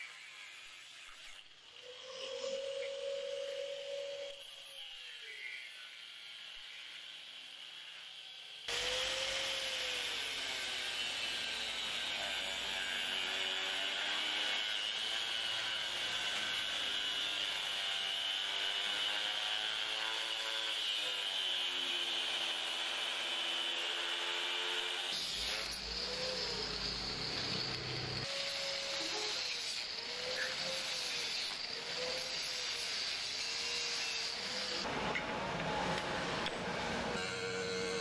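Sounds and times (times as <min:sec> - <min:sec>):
angle grinder cutting steel: 0:00.0 - 0:38.0.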